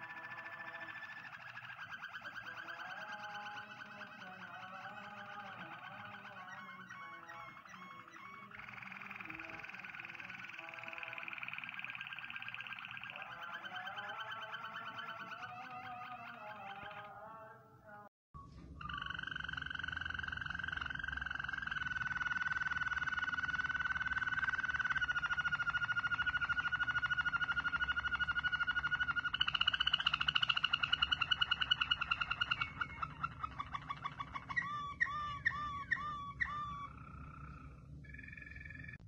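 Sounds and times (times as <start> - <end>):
canary singing trill: 0.0 - 17.6, 18.7 - 39.0.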